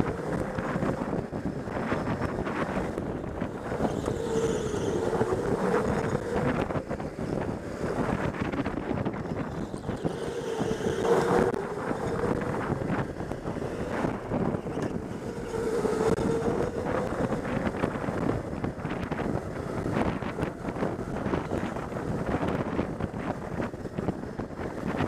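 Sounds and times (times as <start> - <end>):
faint whine: 0.0 - 25.0
go-kart engine rumble: 0.0 - 25.0
wind buffeting microphone: 0.0 - 25.0.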